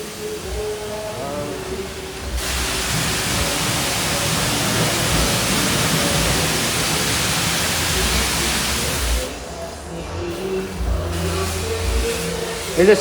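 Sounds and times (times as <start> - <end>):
high-pressure water spray hiss: 0.0 - 13.0.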